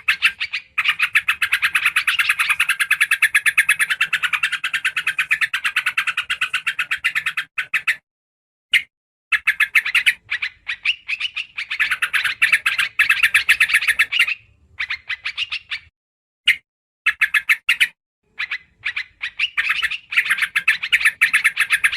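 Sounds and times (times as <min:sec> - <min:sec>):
bird song fast chattering notes: 0:00.0 - 0:08.0, 0:09.3 - 0:15.9, 0:16.5 - 0:21.9.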